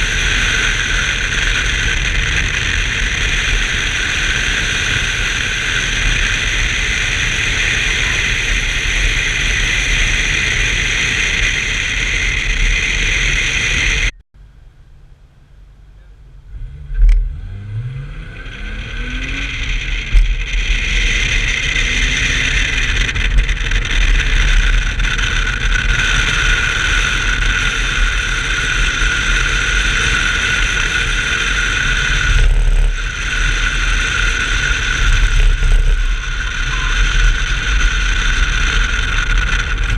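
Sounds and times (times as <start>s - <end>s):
car engine revving: 0.0s - 39.9s
wind and road noise: 0.0s - 39.9s.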